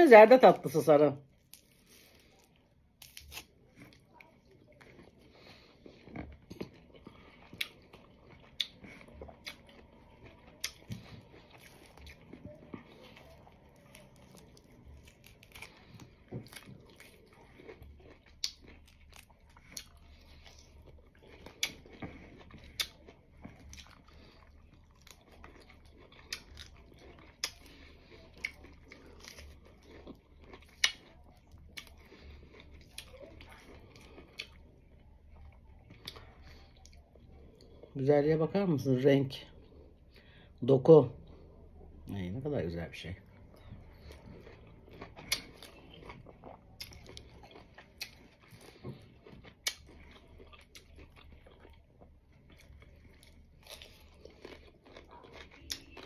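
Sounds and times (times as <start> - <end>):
person chewing fruit: 1.2 - 56.0.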